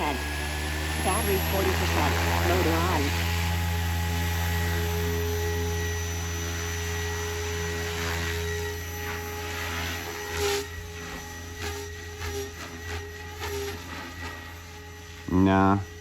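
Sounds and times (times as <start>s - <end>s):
rc helicopter rotor drone: 0.0s - 16.0s.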